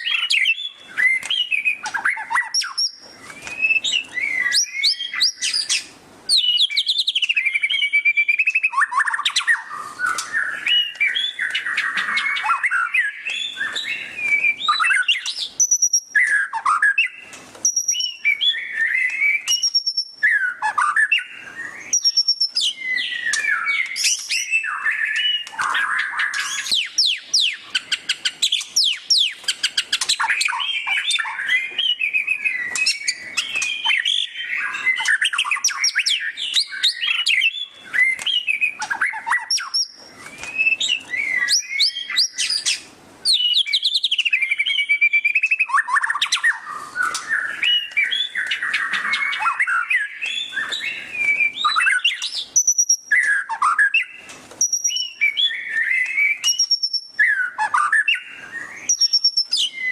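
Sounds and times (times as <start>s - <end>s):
bird singing rapid whistles: 0.0s - 59.9s.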